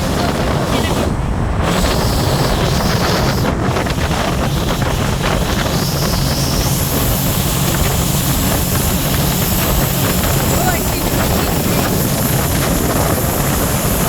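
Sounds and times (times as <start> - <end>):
boat engine running: 0.0 - 14.0
water rushing: 0.0 - 14.0
wind buffeting microphone: 0.0 - 14.0.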